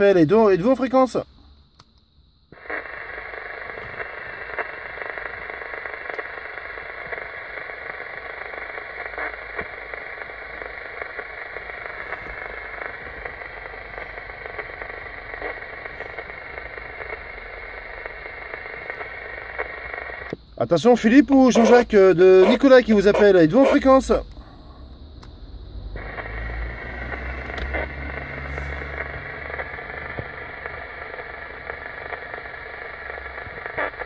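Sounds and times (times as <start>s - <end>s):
radio static hiss: 0.0s - 1.6s, 2.3s - 34.0s.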